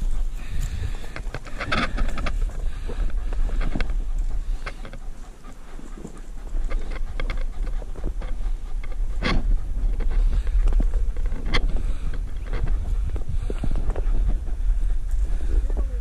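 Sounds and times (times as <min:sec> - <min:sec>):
dry scrub crackling and rustling: 0:00.0 - 0:16.0
wind buffeting microphone: 0:00.0 - 0:16.0.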